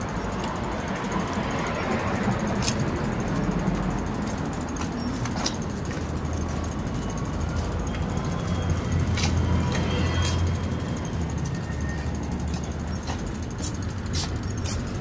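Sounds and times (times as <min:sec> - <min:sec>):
bicycle rolling rumble: 0:00.0 - 0:15.0
street traffic hum: 0:00.0 - 0:15.0.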